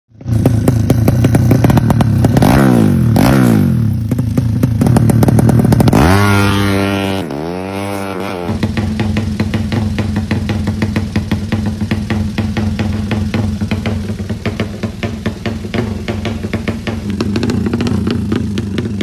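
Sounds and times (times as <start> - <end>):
exhaust crackling pops: 0.1 - 19.0
motorcycle engine revving: 0.1 - 19.0.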